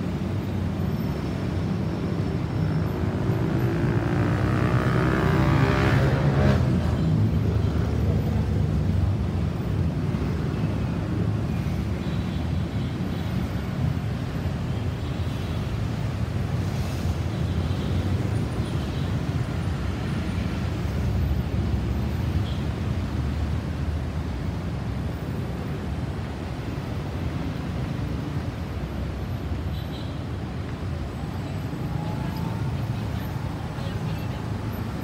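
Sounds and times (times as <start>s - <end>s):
traffic noise: 0.0s - 35.0s
wind: 0.0s - 35.0s.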